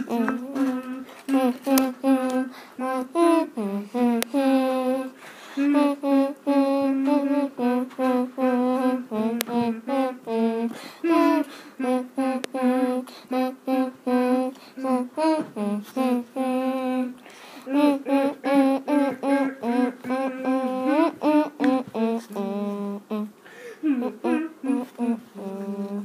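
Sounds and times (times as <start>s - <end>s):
person humming a melody: 0.0s - 26.0s.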